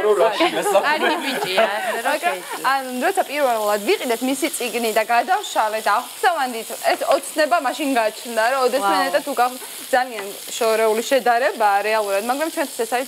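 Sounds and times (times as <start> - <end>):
food sizzling in a pan: 0.0 - 13.0
woman talking: 0.0 - 13.0.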